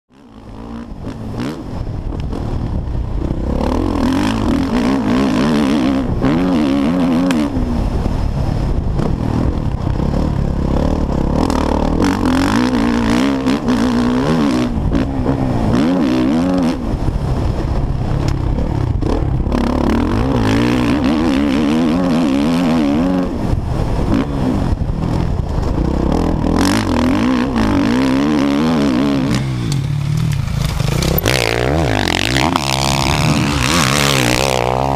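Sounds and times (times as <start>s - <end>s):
motocross bike engine revving: 0.1s - 34.9s.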